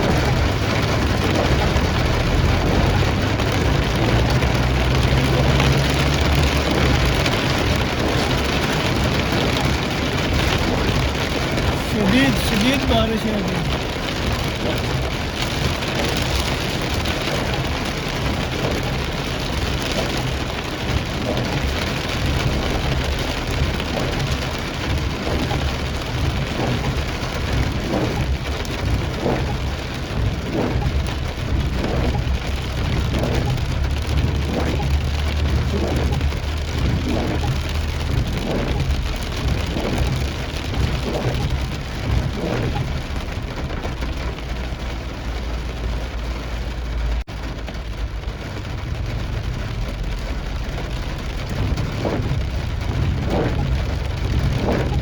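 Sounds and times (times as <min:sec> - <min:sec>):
heavy rain: 0:00.0 - 0:55.0
low vehicle rumble: 0:00.0 - 0:55.0.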